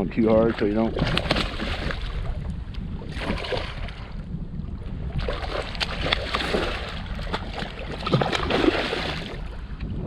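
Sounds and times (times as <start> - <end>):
choppy water: 0.0 - 10.0
wind noise on microphone: 0.0 - 10.0
splashes and knocks against kayak: 0.4 - 4.2, 5.2 - 9.5.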